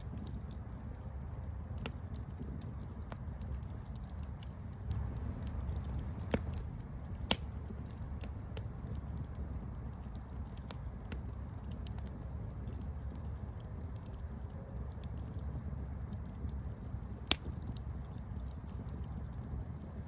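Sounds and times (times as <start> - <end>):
campfire crackles and pops: 0.0 - 20.0
flame rumbling: 0.0 - 20.0.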